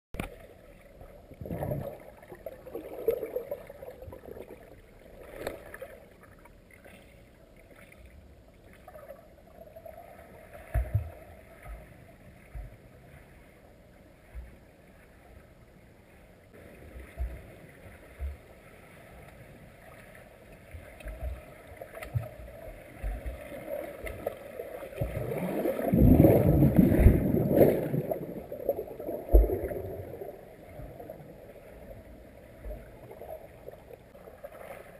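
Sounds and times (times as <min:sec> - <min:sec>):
underwater swimming strokes: 0:00.2 - 0:34.9.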